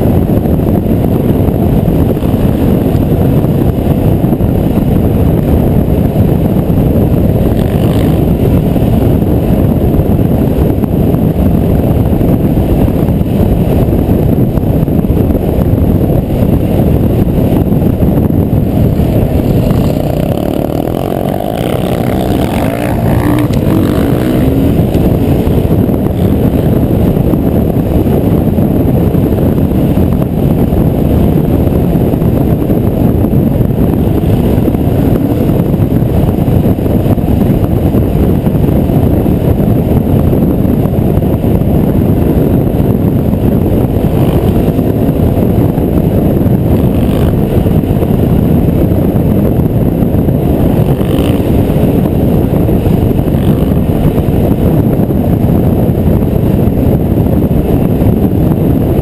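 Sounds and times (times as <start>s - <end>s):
dirt bike engine running: 0.0s - 59.0s
wind buffeting microphone: 0.0s - 59.0s.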